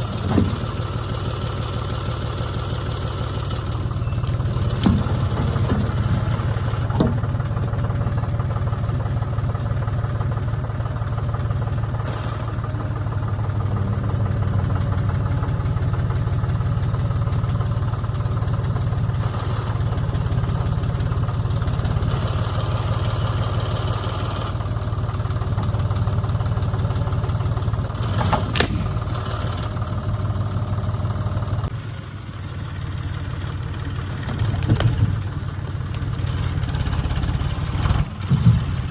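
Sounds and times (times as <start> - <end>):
engine running at low speed: 0.0 - 38.9.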